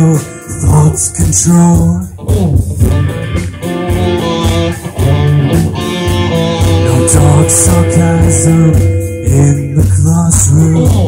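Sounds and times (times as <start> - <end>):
bass guitar: 0.0 - 11.0
drum kit with cymbals: 0.0 - 11.0
electric guitars: 0.0 - 11.0.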